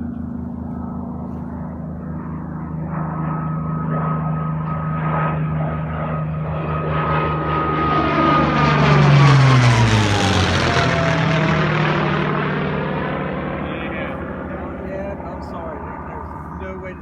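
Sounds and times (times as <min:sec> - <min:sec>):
propeller airplane flying past: 0:00.0 - 0:17.0.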